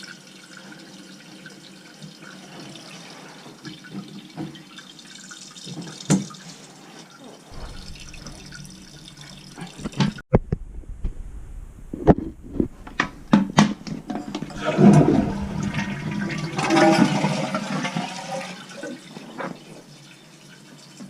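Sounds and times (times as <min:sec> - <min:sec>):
toilet flushing: 0:00.0 - 0:10.2, 0:12.9 - 0:21.0.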